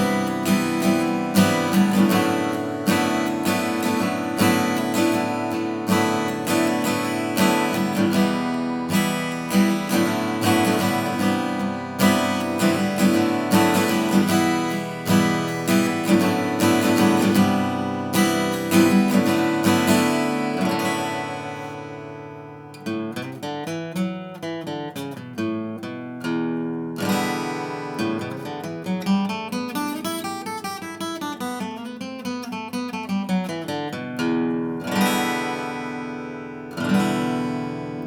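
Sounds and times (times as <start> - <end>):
acoustic guitar strummed chords: 0.0 - 38.0
picked guitar notes: 0.0 - 38.0.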